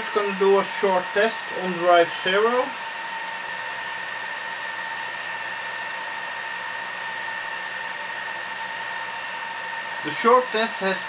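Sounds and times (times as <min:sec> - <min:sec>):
server cooling fans whining: 0:00.0 - 0:11.0.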